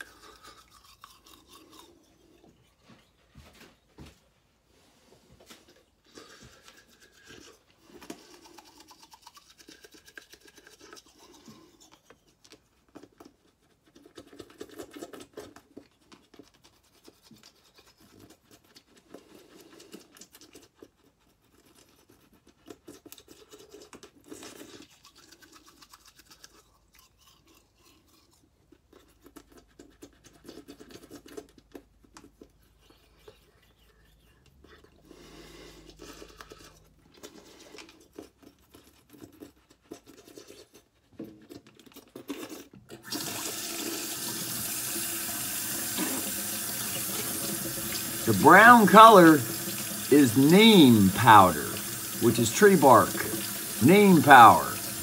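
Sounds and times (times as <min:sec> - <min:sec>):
toothbrush scrubbing teeth: 0:00.0 - 0:03.2, 0:05.6 - 0:55.0.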